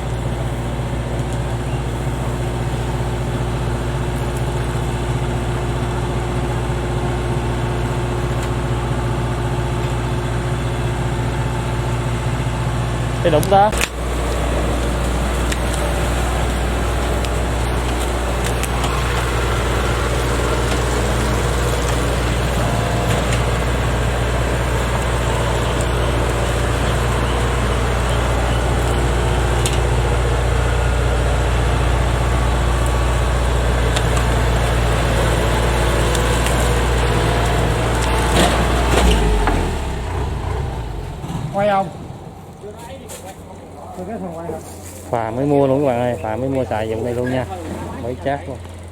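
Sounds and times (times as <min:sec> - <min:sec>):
heavy engine running: 0:00.0 - 0:48.9.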